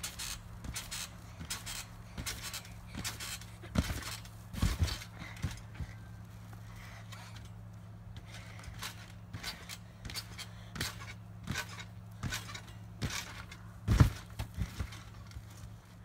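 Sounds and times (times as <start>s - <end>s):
trampoline mat thumping: 0.0s - 6.0s, 8.2s - 15.7s.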